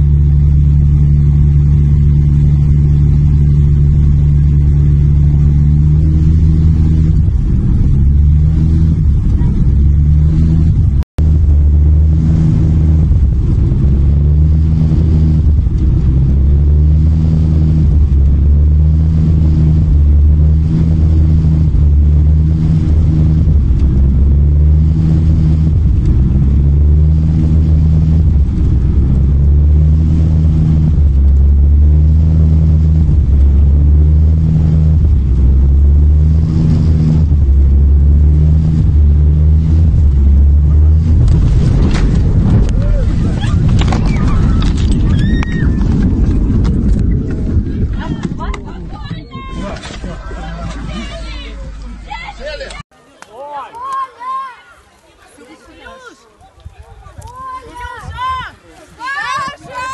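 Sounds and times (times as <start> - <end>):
airliner cabin engine rumble: 0.0 - 52.8.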